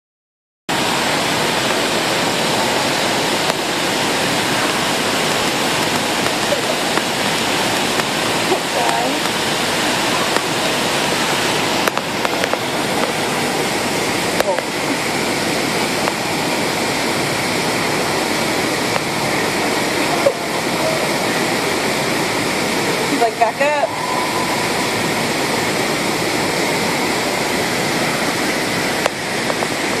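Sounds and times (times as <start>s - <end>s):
water rushing and splashing: 0.7s - 30.0s.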